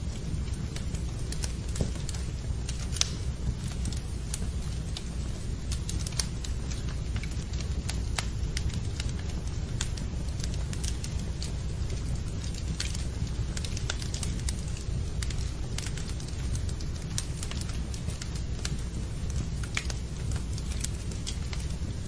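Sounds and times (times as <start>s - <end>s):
fire popping: 0.0s - 22.0s
low steady rumble: 0.0s - 22.0s
wood fire crackling: 0.0s - 22.0s.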